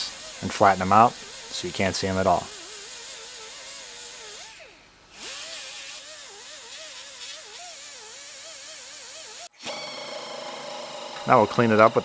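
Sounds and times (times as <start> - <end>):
disc grinder grinding metal: 0.0 - 12.0.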